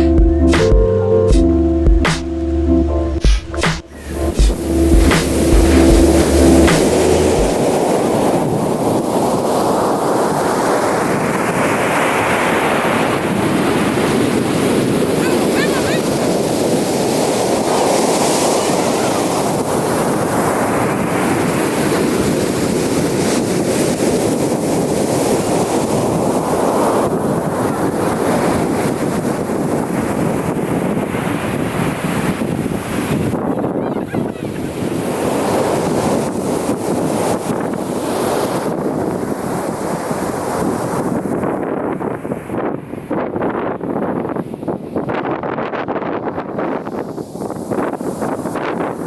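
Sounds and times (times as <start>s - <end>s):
ocean surf on beach: 3.9s - 45.6s, 46.3s - 49.0s
wind buffeting microphone: 3.9s - 49.0s.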